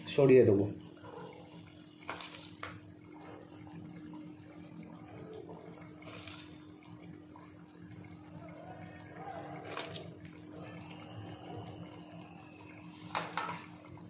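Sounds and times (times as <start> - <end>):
curry sizzling and bubbling: 0.0 - 14.0.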